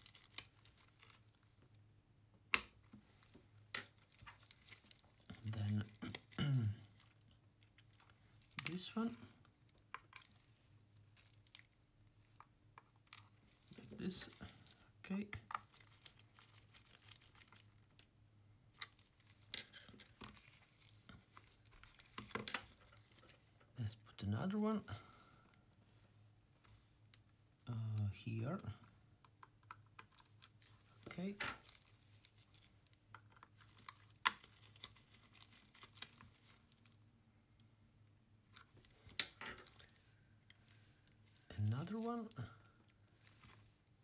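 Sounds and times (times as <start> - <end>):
light rustling of gloved hands: 2.7 - 37.6, 38.4 - 44.0.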